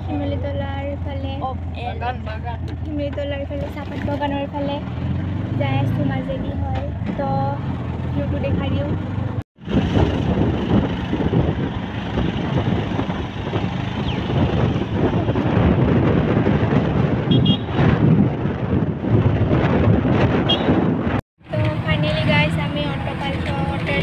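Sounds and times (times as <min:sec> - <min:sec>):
vehicle road and engine noise: 0:00.0 - 0:24.0
wind buffeting microphone: 0:02.6 - 0:24.0.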